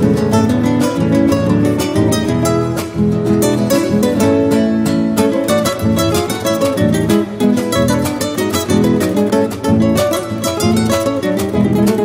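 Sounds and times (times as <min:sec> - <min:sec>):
latin music with acoustic guitar: 0:00.0 - 0:12.0.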